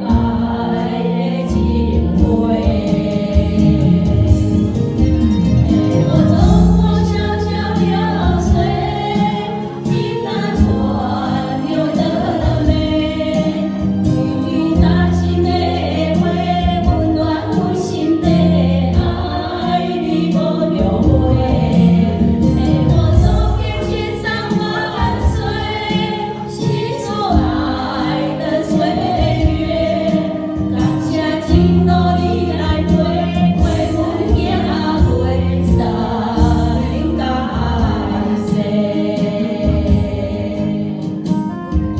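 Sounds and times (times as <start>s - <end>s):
voices singing with accompaniment: 0.0s - 41.9s.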